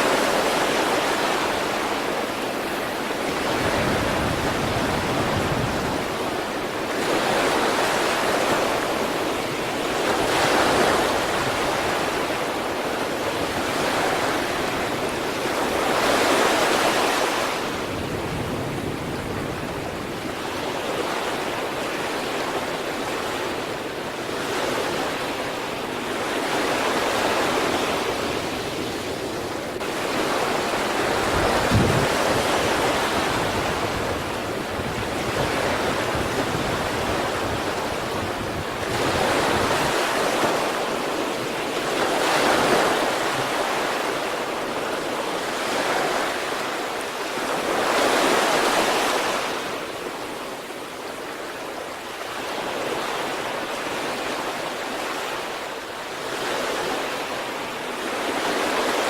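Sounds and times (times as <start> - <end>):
sea waves breaking on shore: 0.0 - 59.0
wind noise on microphone: 0.0 - 59.0.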